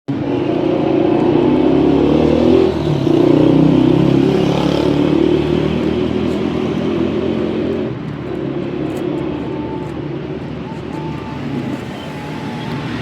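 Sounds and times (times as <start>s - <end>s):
vehicle engine running: 0.2s - 13.0s.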